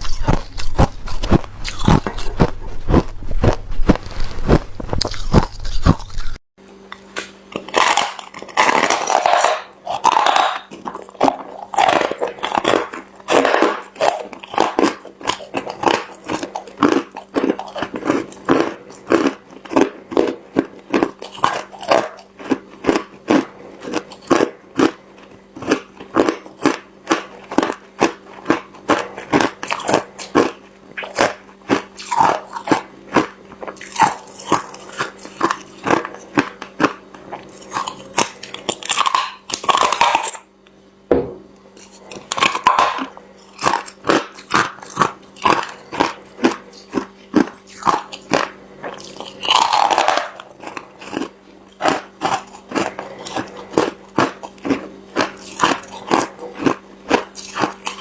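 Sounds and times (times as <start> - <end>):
ice being chewed: 0.0 - 6.4, 7.5 - 40.5, 41.8 - 58.0
faint steady hum: 0.0 - 58.0.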